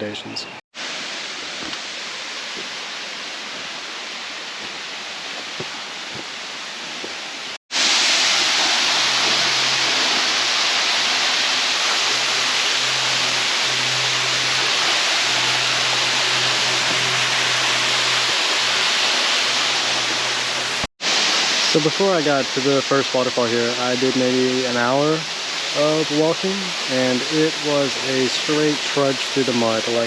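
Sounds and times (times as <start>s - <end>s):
rushing water: 0.8s - 30.0s.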